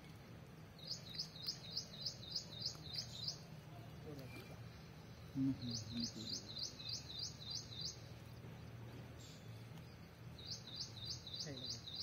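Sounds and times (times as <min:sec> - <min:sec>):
small bird chirping: 0:00.1 - 0:12.0.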